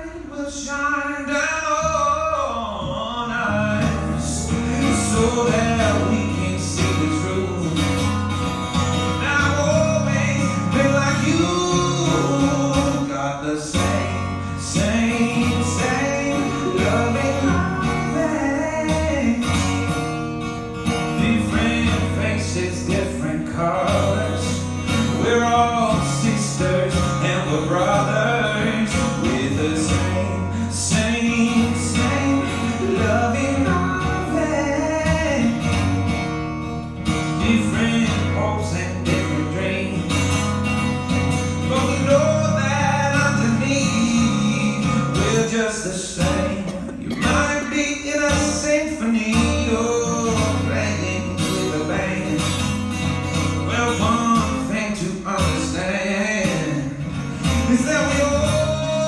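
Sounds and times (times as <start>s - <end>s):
acoustic guitars playing country song: 0.0s - 59.0s.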